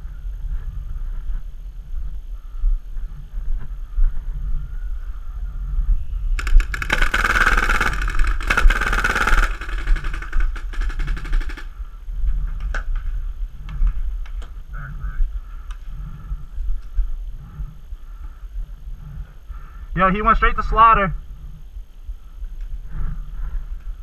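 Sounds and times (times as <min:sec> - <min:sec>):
wind on microphone: 0:00.0 - 0:24.0.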